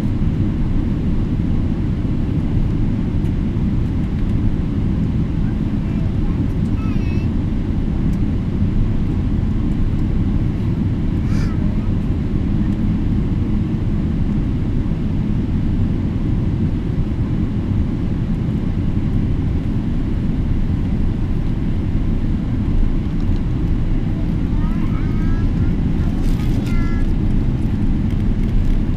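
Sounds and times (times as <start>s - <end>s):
jet engines rumbling: 0.0s - 28.9s.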